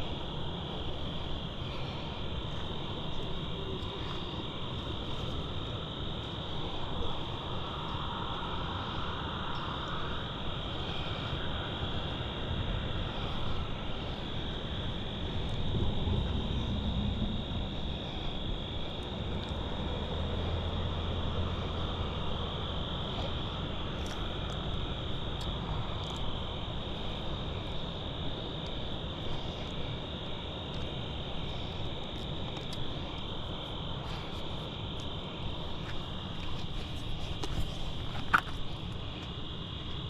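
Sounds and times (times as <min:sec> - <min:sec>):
insects chirping chorus: 0:00.0 - 0:40.0
low drone: 0:00.0 - 0:40.0.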